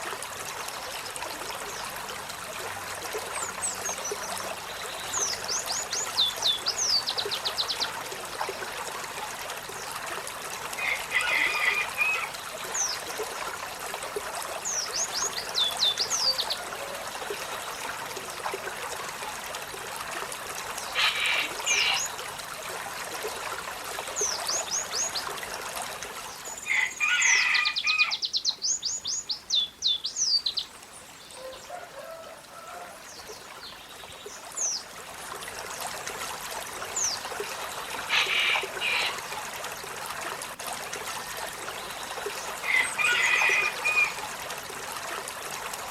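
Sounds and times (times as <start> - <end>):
trickling water: 0.0 - 45.9.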